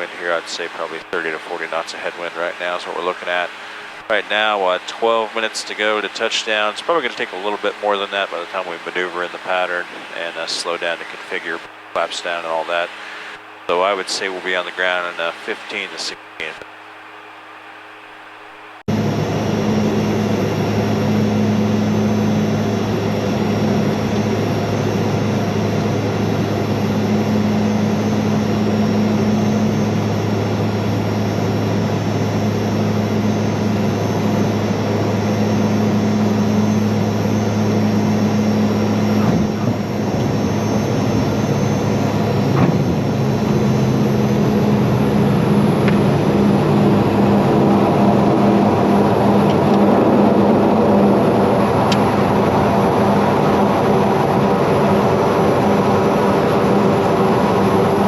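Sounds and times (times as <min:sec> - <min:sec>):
turboprop propeller drone: 0:00.0 - 0:58.0.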